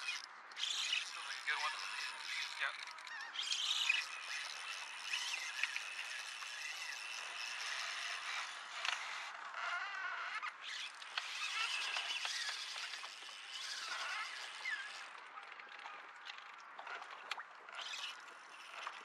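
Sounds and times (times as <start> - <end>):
fishing reel being cranked: 0.0 - 19.0.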